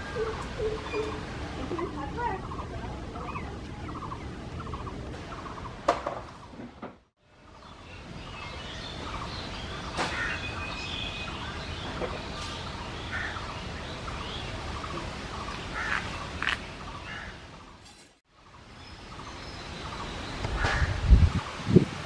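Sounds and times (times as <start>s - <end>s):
birds chirping and calling: 0.0s - 6.4s, 7.5s - 21.4s.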